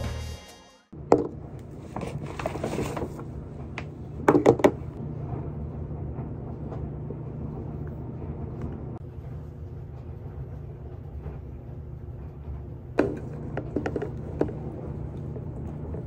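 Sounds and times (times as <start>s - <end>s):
steady low hum: 1.0s - 16.0s.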